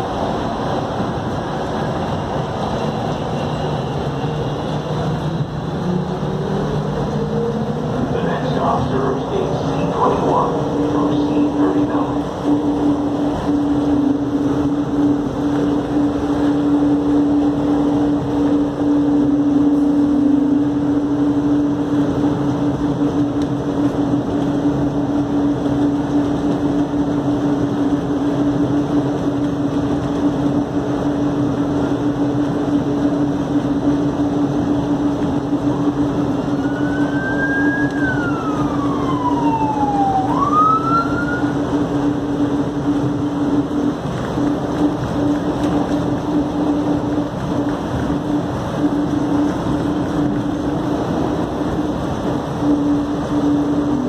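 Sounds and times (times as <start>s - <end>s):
train running hum: 0.0s - 54.0s.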